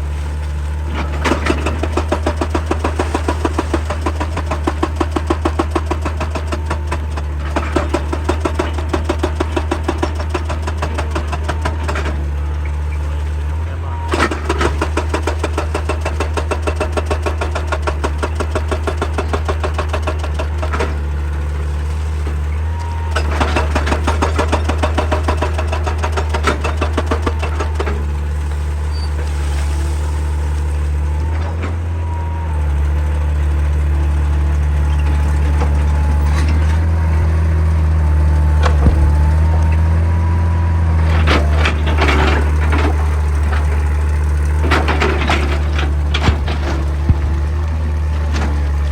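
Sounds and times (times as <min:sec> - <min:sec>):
excavator diesel engine running: 0:00.0 - 0:48.9
hydraulic breaker hammering rock: 0:00.8 - 0:12.9, 0:13.6 - 0:32.2, 0:34.6 - 0:48.9.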